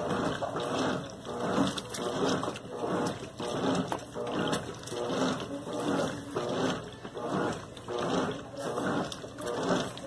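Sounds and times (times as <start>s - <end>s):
washing machine agitating: 0.0s - 10.0s.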